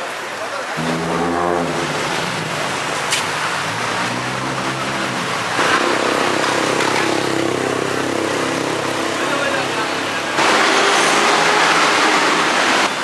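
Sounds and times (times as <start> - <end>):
vehicle engines running: 0.8 - 13.0.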